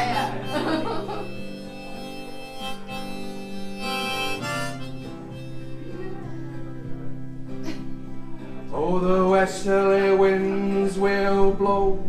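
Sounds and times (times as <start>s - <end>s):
acoustic instrumental folk music: 0.0s - 12.0s.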